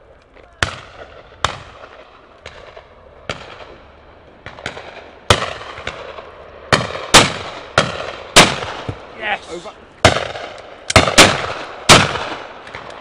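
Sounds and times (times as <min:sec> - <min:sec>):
shotguns firing with echo: 0:00.6 - 0:09.1, 0:10.0 - 0:13.0.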